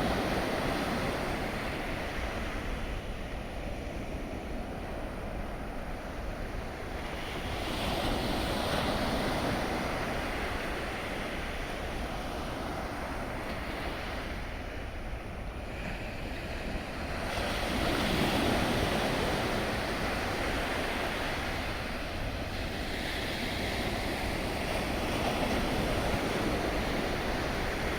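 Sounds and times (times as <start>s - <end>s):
sea waves: 4.2s - 27.9s.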